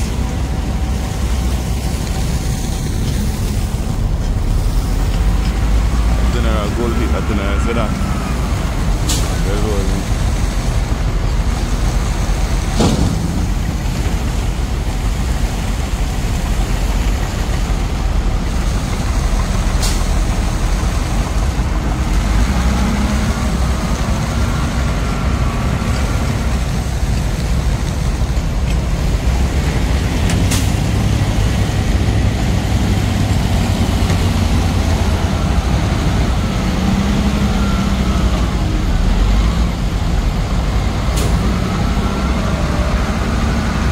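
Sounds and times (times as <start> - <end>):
road noise: 0.0 - 43.9
truck engine running: 0.0 - 43.9.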